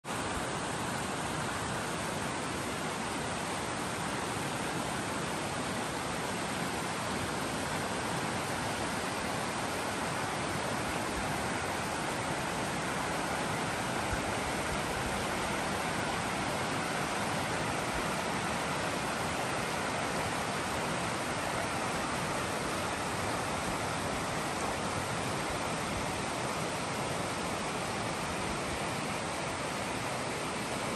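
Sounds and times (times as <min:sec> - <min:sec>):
creek rushing over rocks: 0:00.1 - 0:30.9.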